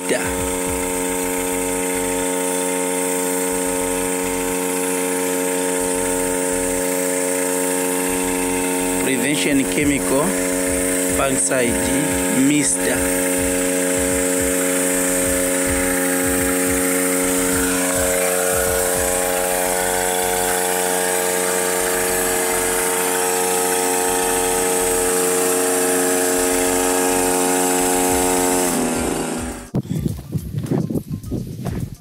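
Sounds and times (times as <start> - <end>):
hiss of spray: 0.0 - 29.7
backpack mist sprayer motor humming: 0.0 - 32.0.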